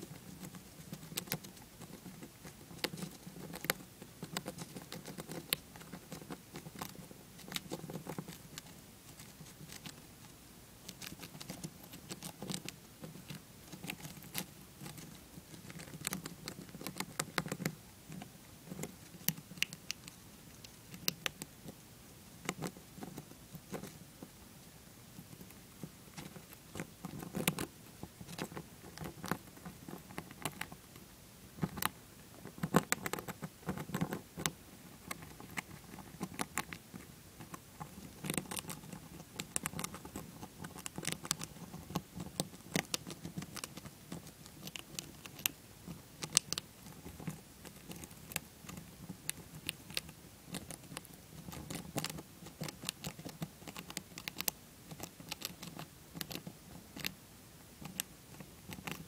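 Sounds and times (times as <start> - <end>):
hamster chewing a peanut: 0.0 - 59.0.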